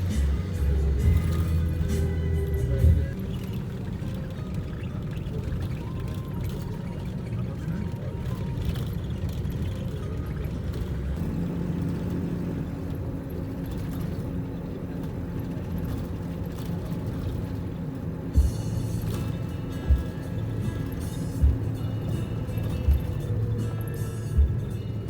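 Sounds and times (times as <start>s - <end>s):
bus engine: 0.0s - 25.0s
road rumble: 0.0s - 25.0s.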